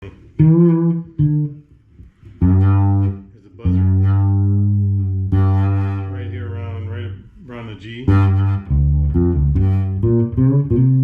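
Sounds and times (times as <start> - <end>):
fretless bass guitar notes: 0.0 - 7.4, 8.0 - 11.0.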